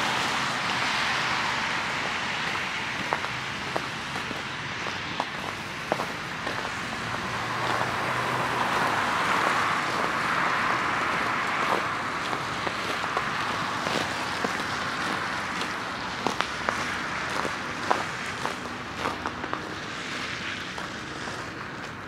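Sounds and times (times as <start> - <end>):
car passing with tyre noise: 0.0 - 22.0
steady traffic noise: 0.0 - 22.0.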